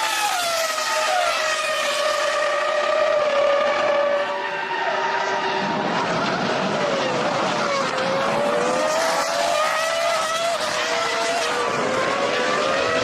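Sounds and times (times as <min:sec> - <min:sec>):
racing car engines whining: 0:00.0 - 0:13.0.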